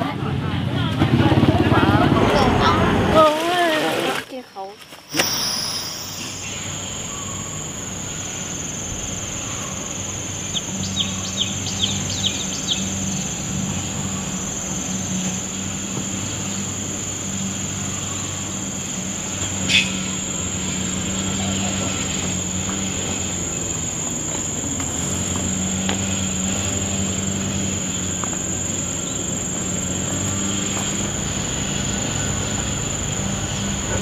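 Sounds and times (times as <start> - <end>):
bird chirps: 4.5 - 32.0
high-pitched insect drone: 5.1 - 34.0
low motor hum: 5.2 - 34.0.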